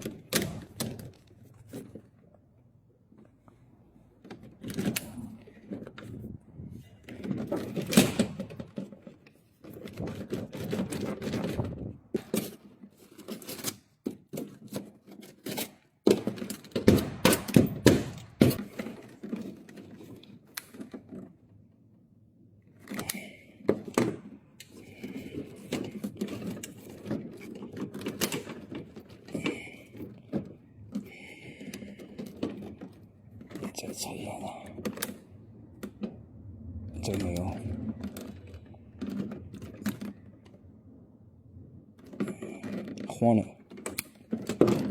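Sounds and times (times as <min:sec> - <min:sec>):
objects knocking and clattering: 0:04.2 - 0:21.7, 0:22.7 - 0:36.2, 0:37.0 - 0:40.8, 0:41.8 - 0:44.9.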